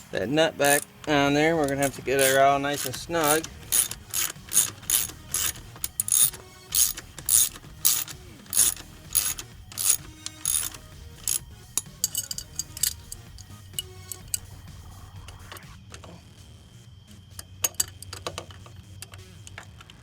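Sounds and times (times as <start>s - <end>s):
ratchet wrench cranking: 0.6s - 15.7s, 17.6s - 19.9s.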